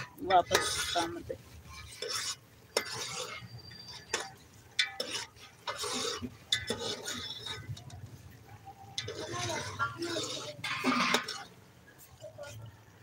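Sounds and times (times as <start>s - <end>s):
utensil scraping food in pot: 0.0s - 13.0s.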